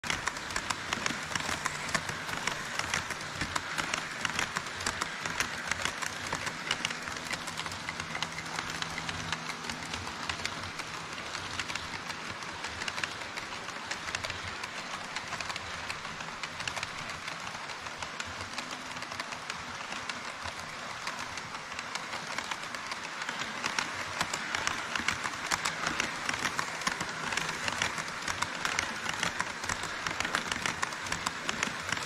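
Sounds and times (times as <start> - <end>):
clicks at rail joints: 0.0 - 32.0
model train wheels rattling: 0.0 - 32.0.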